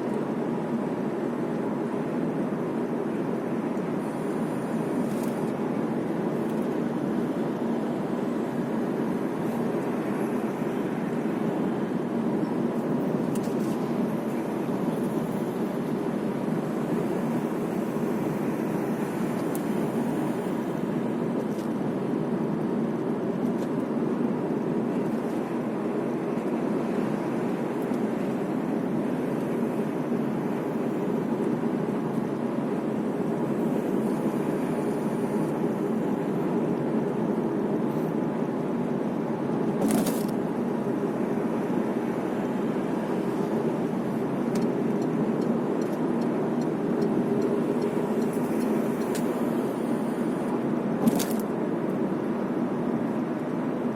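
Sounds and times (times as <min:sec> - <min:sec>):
car road noise inside cabin: 0:00.0 - 0:53.9.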